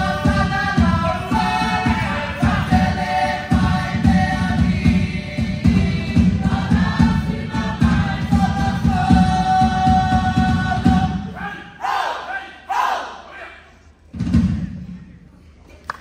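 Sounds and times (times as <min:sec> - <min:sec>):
group of voices singing: 0:00.0 - 0:13.5.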